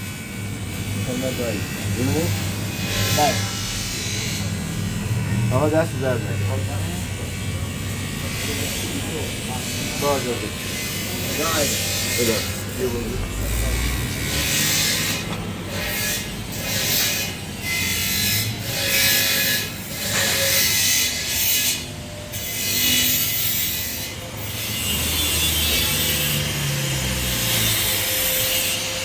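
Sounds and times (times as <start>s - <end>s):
hand saw rasping: 1.1s - 4.5s, 8.4s - 29.0s.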